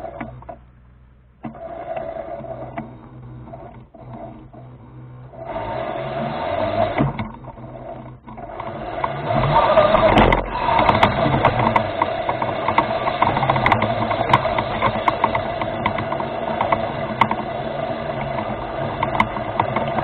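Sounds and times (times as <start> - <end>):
electric motor whining: 0.0 - 0.8, 1.4 - 20.0.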